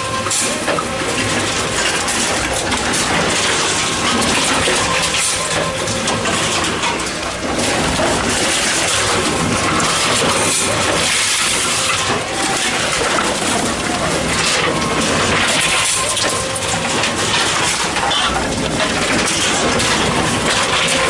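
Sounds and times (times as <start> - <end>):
machine motor hum: 0.0 - 21.0
plastic bottles rattling: 0.0 - 21.0.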